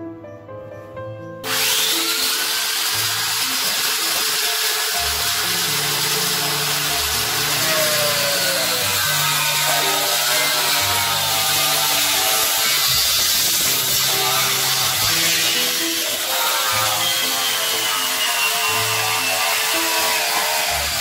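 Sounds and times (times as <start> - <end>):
angle grinder cutting plastic: 1.4 - 21.0.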